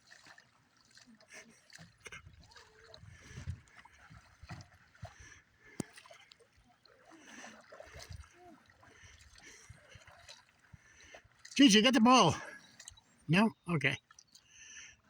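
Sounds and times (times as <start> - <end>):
paddle splashing water: 0.0 - 14.8.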